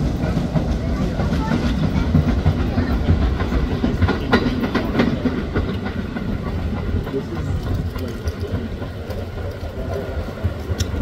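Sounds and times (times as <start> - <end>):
train wheels clacking on rails: 0.0 - 11.0.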